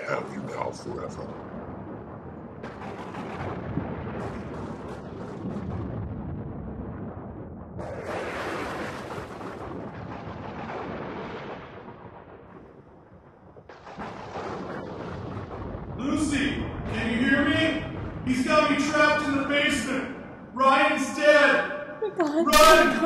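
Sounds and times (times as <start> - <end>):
heavy low rumble: 0.0 - 8.2, 8.8 - 21.3.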